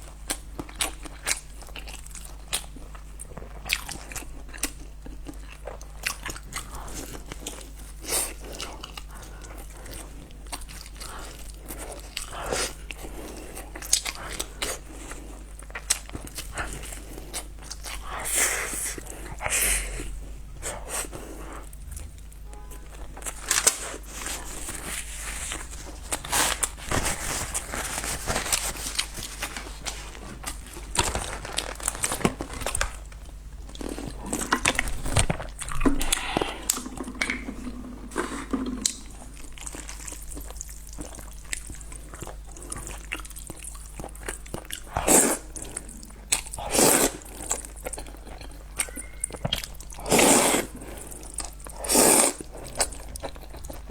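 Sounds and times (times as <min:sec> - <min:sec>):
person chewing noodles: 0:00.0 - 0:53.9.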